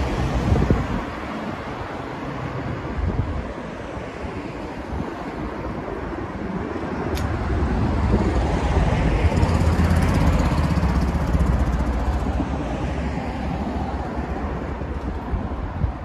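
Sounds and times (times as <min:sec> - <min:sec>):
traffic noise: 0:00.0 - 0:16.0
wind: 0:00.0 - 0:16.0.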